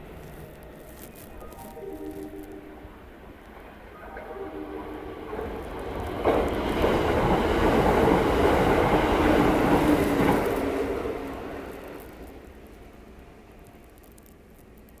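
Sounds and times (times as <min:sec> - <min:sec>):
train passing at speed: 0:00.0 - 0:13.8.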